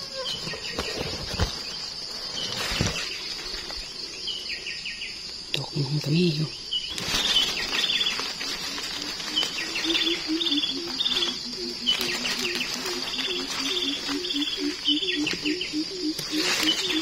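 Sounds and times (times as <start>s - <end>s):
birds trilling: 0.0s - 17.0s
high insect buzz: 0.0s - 17.0s.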